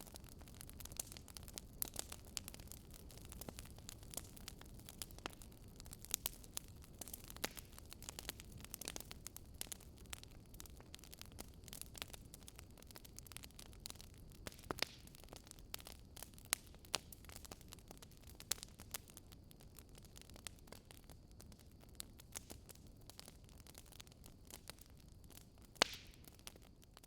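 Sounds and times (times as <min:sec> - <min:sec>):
faint steady hiss: 0:00.0 - 0:27.0
wood fire crackling: 0:00.0 - 0:27.0.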